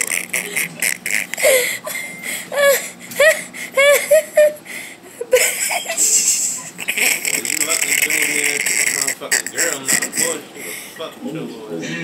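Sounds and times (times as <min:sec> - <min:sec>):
person laughing in squeals: 0:00.0 - 0:10.4.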